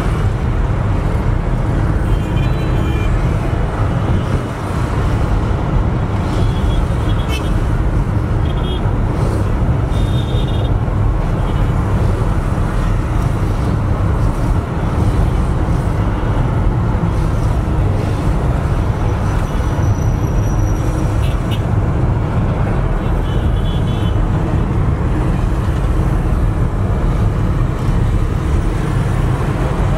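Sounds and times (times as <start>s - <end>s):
car engine rumble: 0.0s - 29.9s
road noise: 0.0s - 29.9s
street traffic: 0.0s - 29.9s.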